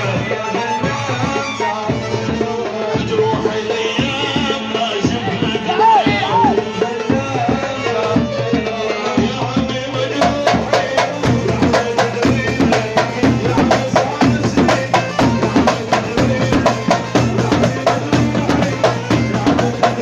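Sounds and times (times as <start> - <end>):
fast drum rhythm: 0.0 - 20.0.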